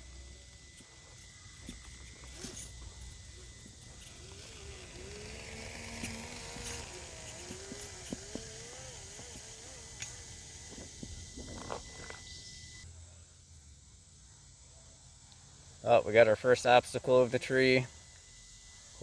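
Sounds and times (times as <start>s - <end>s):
small electric motor whining: 0.0s - 12.9s, 15.2s - 19.0s.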